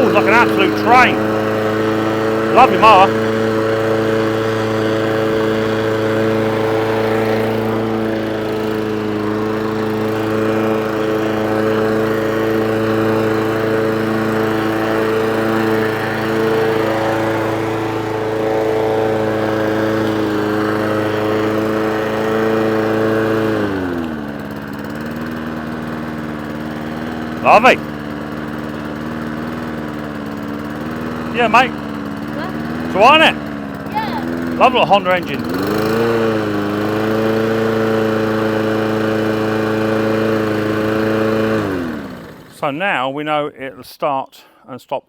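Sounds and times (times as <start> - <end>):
lawnmower engine running: 0.0 - 43.1.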